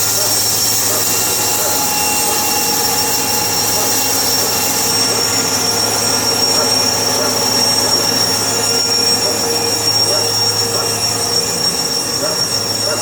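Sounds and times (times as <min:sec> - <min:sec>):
high-pitched whine: 0:00.0 - 0:13.0
sawmill machinery drone: 0:00.0 - 0:13.0.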